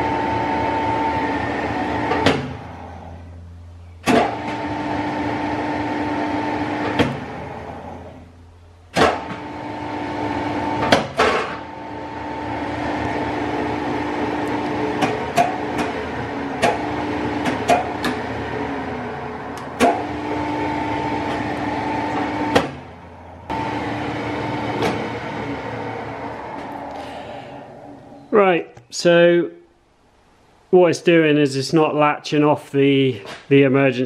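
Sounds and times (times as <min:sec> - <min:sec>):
lathe motor hum: 0:00.0 - 0:28.4.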